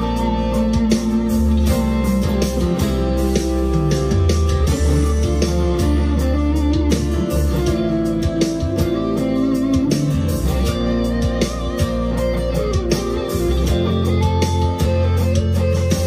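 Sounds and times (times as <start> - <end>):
electric guitar lead line: 0.0 - 16.0
slow ballad backing track: 0.0 - 16.0.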